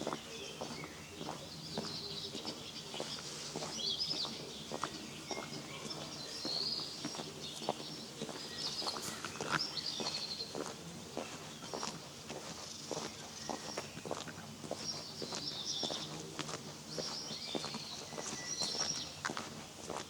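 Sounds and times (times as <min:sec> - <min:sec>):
footsteps: 0:00.0 - 0:20.0
songbirds warbling: 0:00.0 - 0:20.0.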